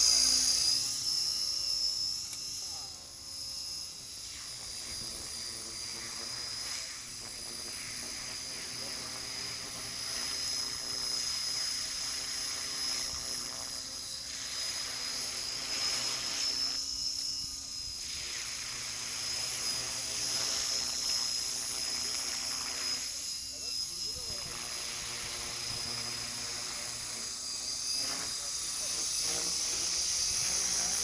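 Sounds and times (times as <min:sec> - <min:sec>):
model helicopter whining: 0:00.0 - 0:31.0.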